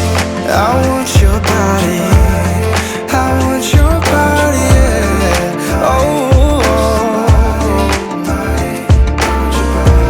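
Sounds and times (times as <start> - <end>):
deep bass hits: 0.0 - 2.8, 3.8 - 10.0
pop music with steady beat: 0.0 - 10.0.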